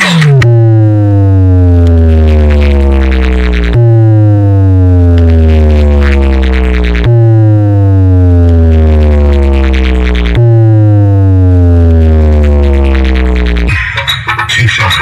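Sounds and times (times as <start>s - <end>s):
loud electronic bass tone: 0.0s - 15.0s.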